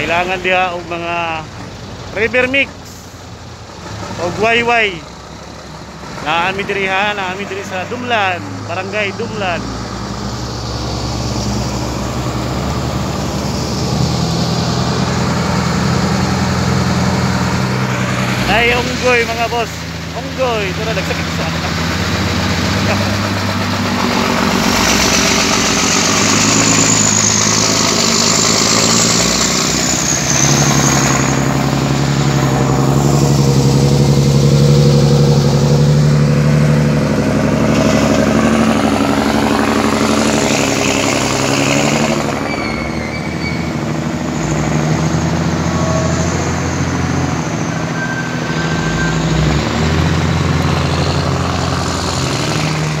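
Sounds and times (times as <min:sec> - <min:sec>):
dump truck diesel engine: 0:00.0 - 0:53.0
wheel loader diesel engine: 0:00.0 - 0:53.0.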